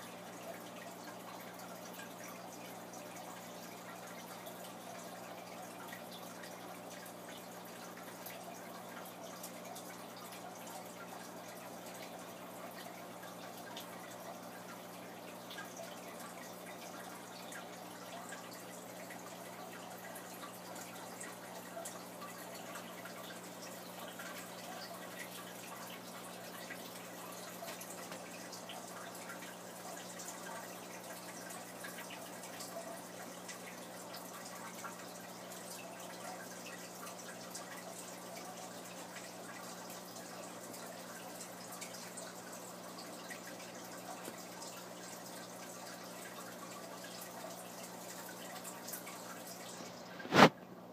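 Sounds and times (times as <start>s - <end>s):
water trickling and dripping: 0.0s - 50.6s.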